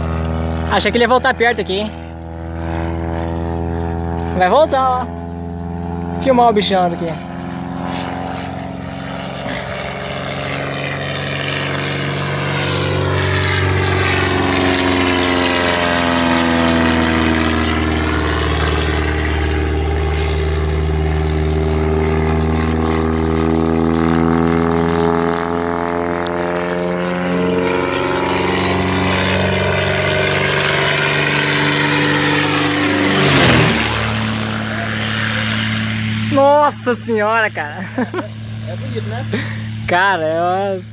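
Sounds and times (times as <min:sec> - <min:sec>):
propeller airplane droning: 0:00.0 - 0:40.9.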